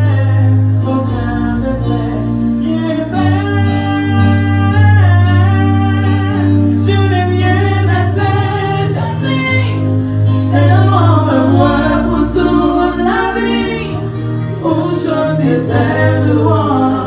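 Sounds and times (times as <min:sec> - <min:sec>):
gospel singing with accompaniment: 0:00.0 - 0:17.0.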